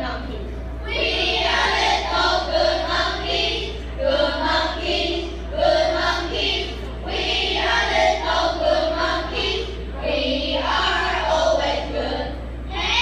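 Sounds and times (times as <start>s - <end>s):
low electrical hum: 0.0s - 13.0s
children singing in unison: 0.9s - 13.0s.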